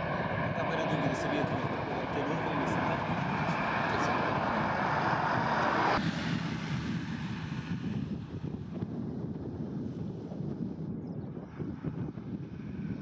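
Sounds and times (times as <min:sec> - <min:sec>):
jet airliner engine noise: 0:00.0 - 0:13.0
wind buffeting microphone: 0:00.0 - 0:13.0.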